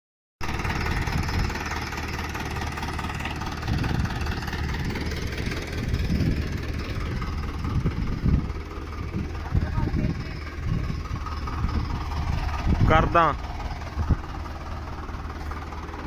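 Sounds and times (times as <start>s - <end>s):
tractor diesel engine running: 0.4s - 16.0s.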